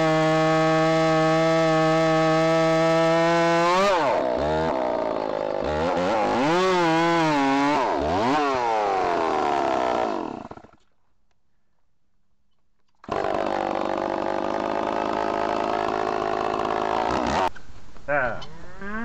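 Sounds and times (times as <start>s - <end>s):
chainsaw cutting: 0.0s - 11.0s, 13.0s - 17.5s.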